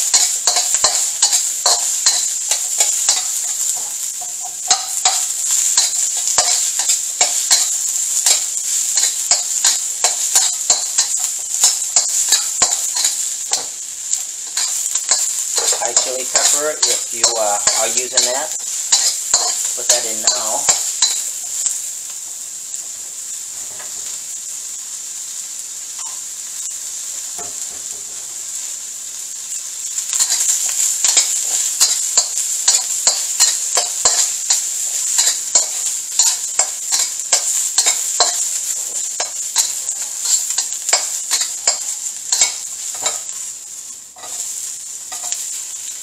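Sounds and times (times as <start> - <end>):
metal spatula scraping a wok: 0.0 - 21.3, 29.6 - 43.5, 44.2 - 46.0
food sizzling in hot oil: 0.0 - 46.0.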